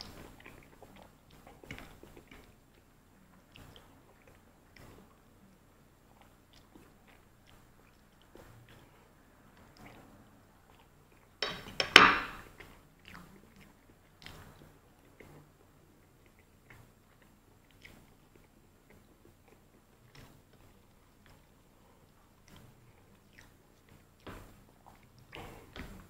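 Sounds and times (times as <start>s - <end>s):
chewing crispy fried chicken: 0.0s - 11.8s, 12.4s - 26.0s
wet mouth clicks: 0.0s - 26.0s.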